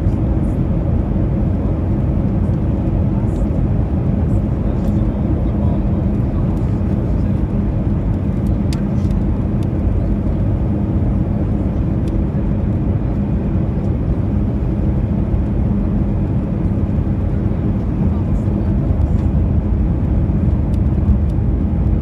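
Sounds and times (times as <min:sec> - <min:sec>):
jet engines and airflow rushing: 0:00.0 - 0:22.0.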